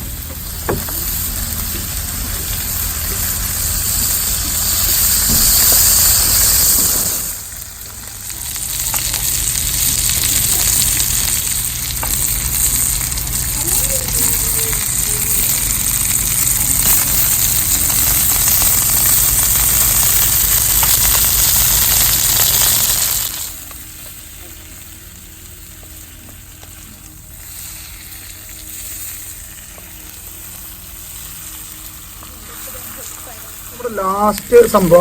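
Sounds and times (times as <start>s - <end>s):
chicken sizzling on hot stone: 0.0s - 35.0s.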